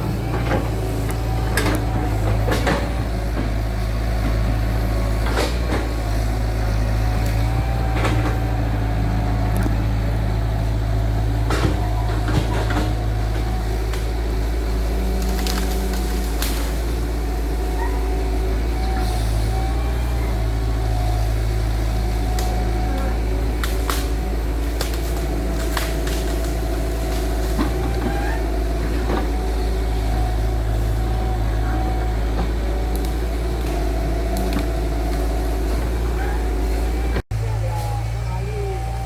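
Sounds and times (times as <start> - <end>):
heavy machine engine humming: 0.0 - 39.0.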